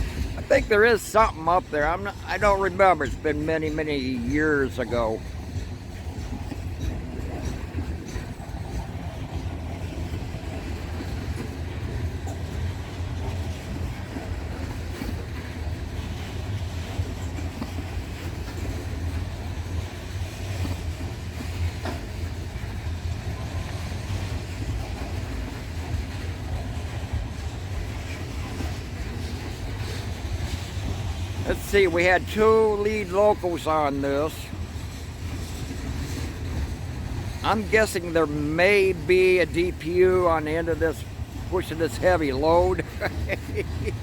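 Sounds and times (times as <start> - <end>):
freight train rumbling: 0.0 - 44.0
wheels clicking over rails: 0.0 - 44.0.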